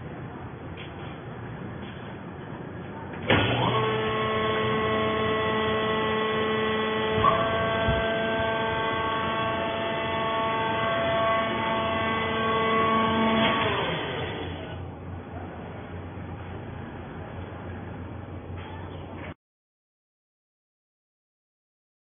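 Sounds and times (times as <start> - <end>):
hydraulic motor and pump humming: 0.2 - 19.3.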